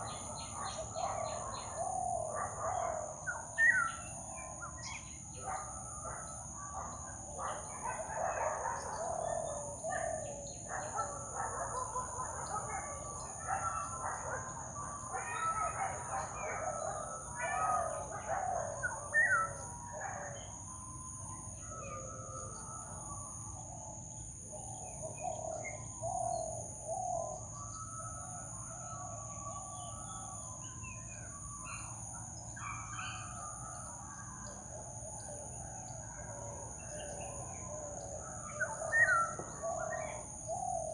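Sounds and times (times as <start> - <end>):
jungle birds calling: 0.0 - 40.9.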